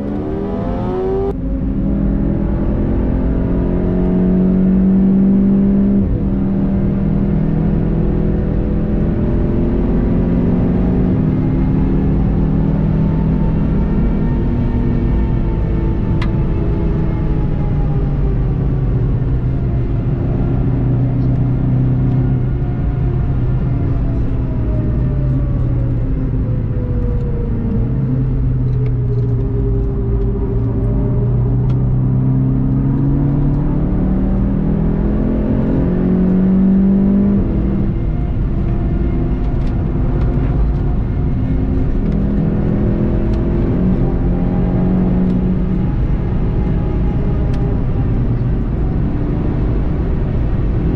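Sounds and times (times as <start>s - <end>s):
car engine accelerating and slowing: 0.0s - 50.9s
road and wind noise: 0.0s - 50.9s.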